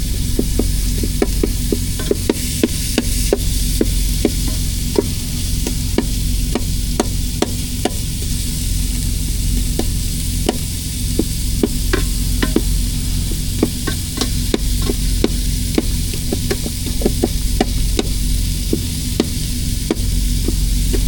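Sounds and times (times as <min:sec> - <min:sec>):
meat sizzling in a frying pan: 0:00.0 - 0:21.0
steady low hum: 0:00.0 - 0:21.0
spatula knocking against pan: 0:00.4 - 0:21.0.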